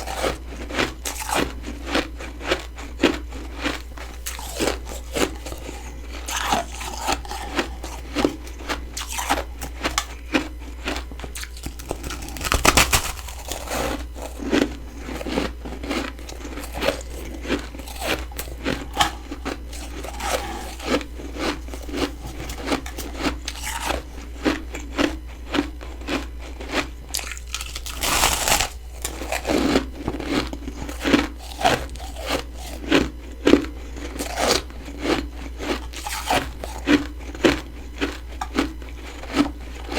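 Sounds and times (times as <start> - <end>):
crunching and chewing frost: 0.0 - 39.9.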